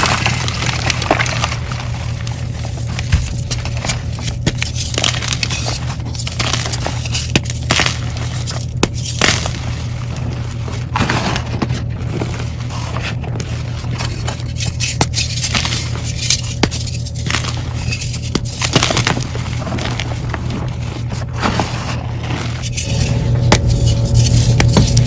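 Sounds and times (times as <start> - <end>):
chalk crushed and crumbled: 0.0 - 25.0
steady low hum: 0.0 - 25.0.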